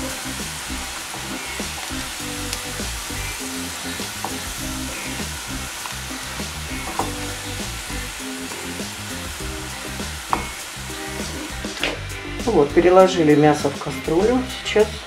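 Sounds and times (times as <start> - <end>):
chicken sizzling in frying pan: 0.0 - 14.8
soft background music: 0.0 - 15.0.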